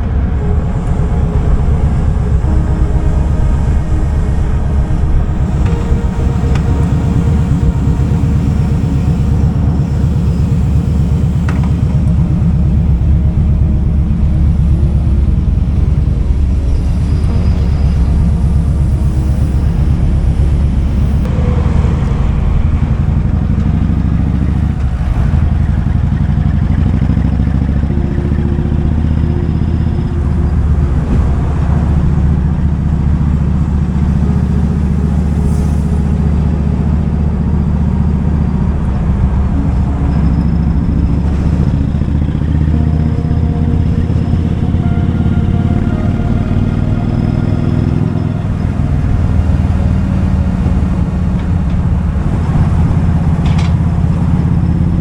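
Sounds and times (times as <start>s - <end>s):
motorcycle engine rumbling at low revs: 0.0s - 55.0s.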